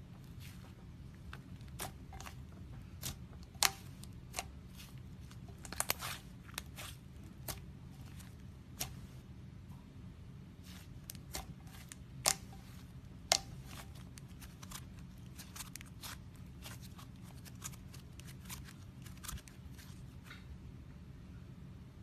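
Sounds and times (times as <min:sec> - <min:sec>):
steady low hum: 0:00.0 - 0:22.0
slime clicking and crackling: 0:00.2 - 0:09.1, 0:10.6 - 0:20.1.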